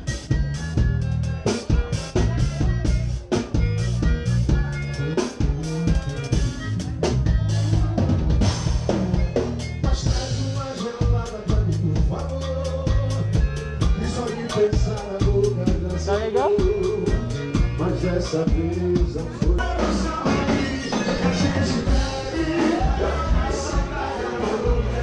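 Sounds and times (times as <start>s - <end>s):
drum kit beating: 0.0s - 25.0s
live band playing through speakers: 0.0s - 25.0s
low bass line: 0.0s - 25.0s.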